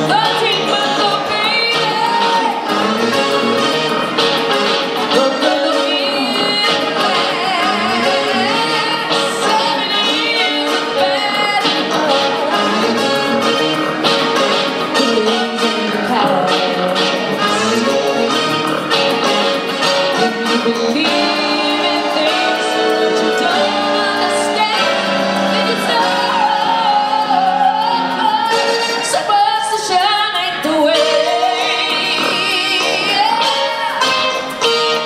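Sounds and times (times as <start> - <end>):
woman singing into microphone: 0.0 - 3.5, 5.1 - 13.7, 14.8 - 18.8, 20.0 - 34.7
guitar: 0.0 - 35.0
keyboard: 0.0 - 35.0.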